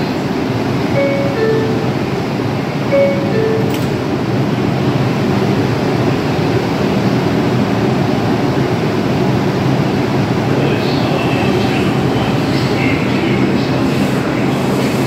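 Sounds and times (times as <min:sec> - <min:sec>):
subway train rumble and hum: 0:00.0 - 0:15.0.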